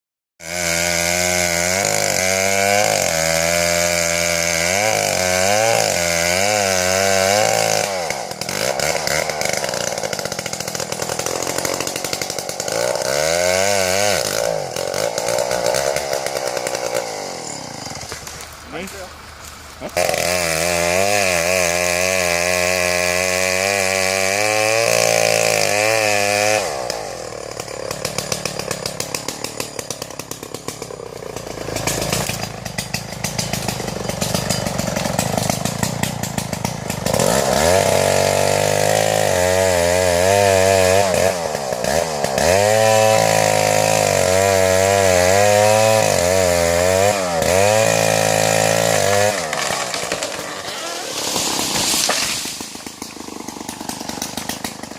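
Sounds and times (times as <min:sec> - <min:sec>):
chainsaw cutting wood: 0:00.4 - 0:54.9.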